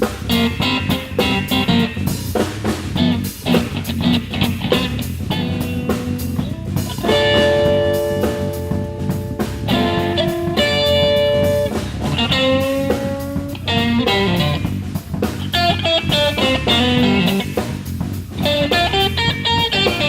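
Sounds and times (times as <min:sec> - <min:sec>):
blues band playing: 0:00.0 - 0:20.0
electric guitar lead notes: 0:00.1 - 0:02.3, 0:03.0 - 0:20.0.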